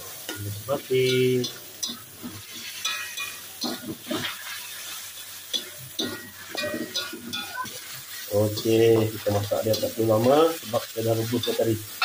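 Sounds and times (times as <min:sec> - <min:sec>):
food sizzling: 0:00.0 - 0:12.0
metal spatula scraping a wok: 0:00.0 - 0:12.0.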